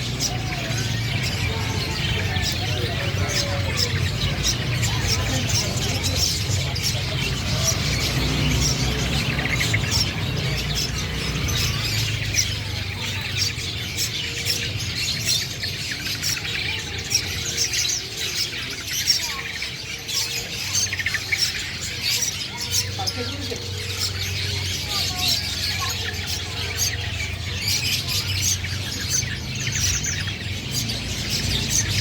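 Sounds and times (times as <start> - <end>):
bird singing scratchy chatter: 0.0 - 32.0.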